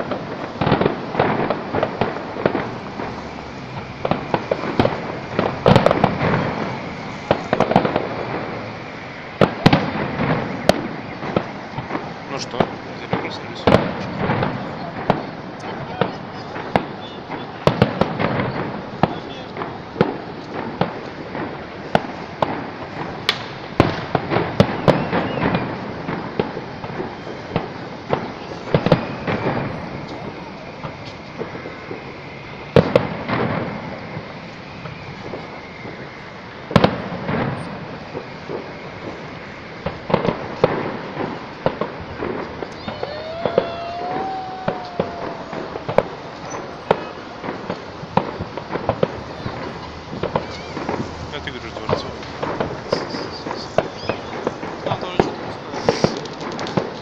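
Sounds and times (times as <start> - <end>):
continuous background hiss: 0.0 - 57.0
fireworks bangs and pops: 0.0 - 57.0.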